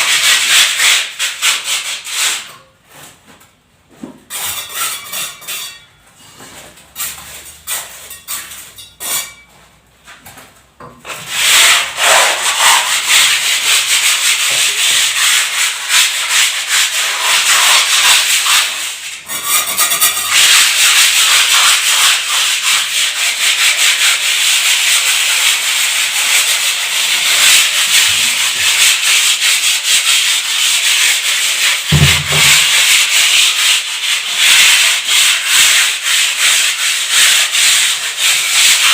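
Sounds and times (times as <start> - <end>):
sanding strokes on a wall: 0.0 - 3.2, 4.3 - 5.7, 6.4 - 9.5, 11.0 - 38.9.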